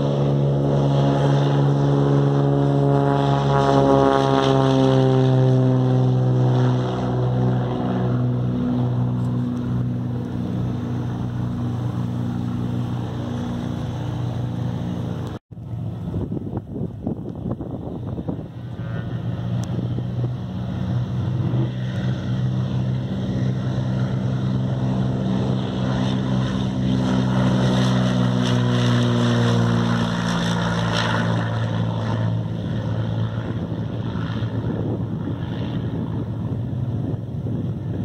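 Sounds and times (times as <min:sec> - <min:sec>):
propeller plane engine droning: 0:00.0 - 0:38.0
wind noise on microphone: 0:00.0 - 0:38.0.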